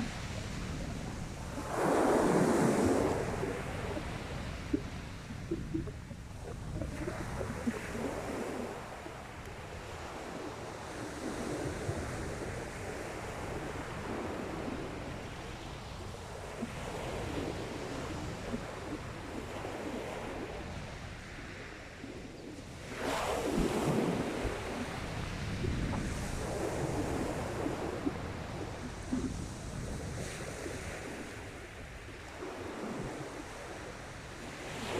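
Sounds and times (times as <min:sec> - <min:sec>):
wind buffeting microphone: 0:00.0 - 0:31.8
waves on a shingle beach: 0:00.0 - 0:34.9.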